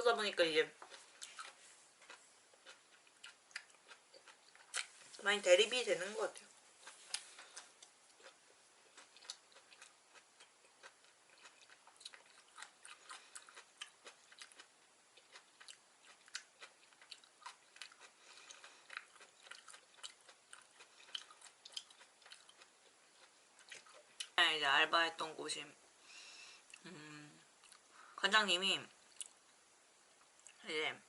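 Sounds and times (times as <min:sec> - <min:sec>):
person chewing: 0:00.8 - 0:05.2, 0:06.5 - 0:24.4, 0:26.6 - 0:28.2, 0:29.0 - 0:30.6.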